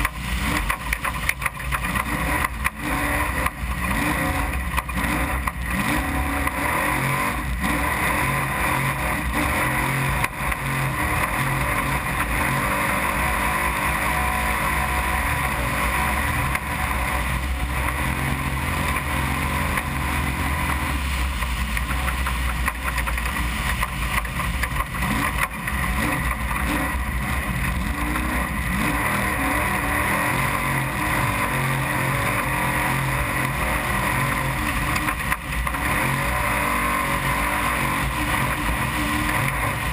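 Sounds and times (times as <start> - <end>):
truck engine at high revs: 0.0 - 39.9
wind and chassis noise: 0.0 - 39.9.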